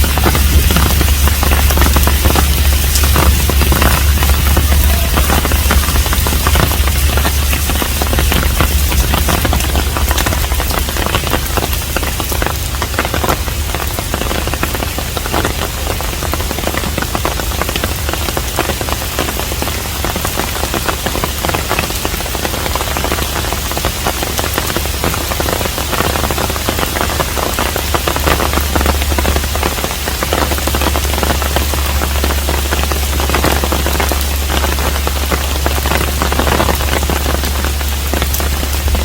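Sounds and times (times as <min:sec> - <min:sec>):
low rumble: 0:00.0 - 0:22.5, 0:23.6 - 0:39.0
rain pattering: 0:00.0 - 0:39.0.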